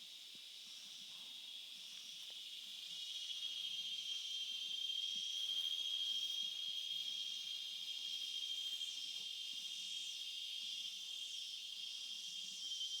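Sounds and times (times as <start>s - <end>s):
insect chorus trilling: 0.7s - 13.0s.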